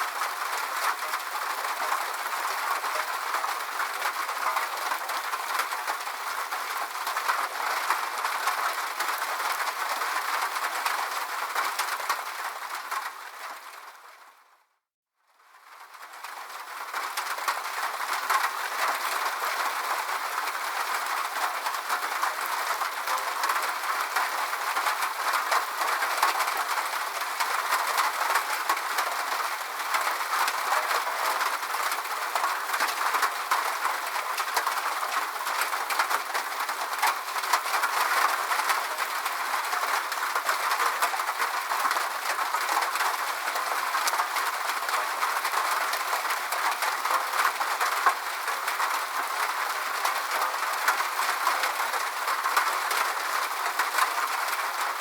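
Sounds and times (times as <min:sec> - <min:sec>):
steady rain falling: 0:00.0 - 0:14.7, 0:15.3 - 0:55.0.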